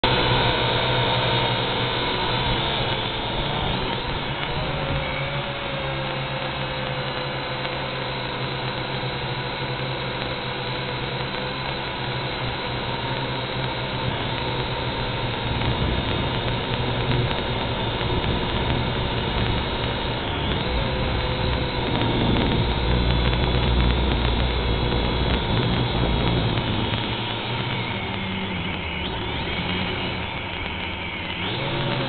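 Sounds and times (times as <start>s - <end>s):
quadcopter motor and propeller buzz: 0.0s - 32.0s.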